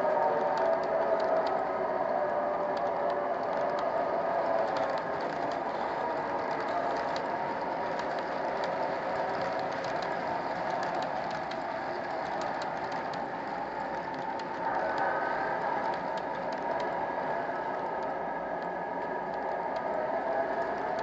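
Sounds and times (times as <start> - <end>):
model train rolling rumble: 2.6 - 21.0.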